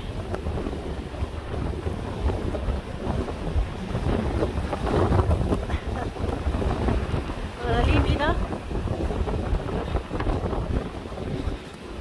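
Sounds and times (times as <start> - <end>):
rough surf: 0.0 - 12.0
strong wind buffeting microphone: 0.0 - 12.0.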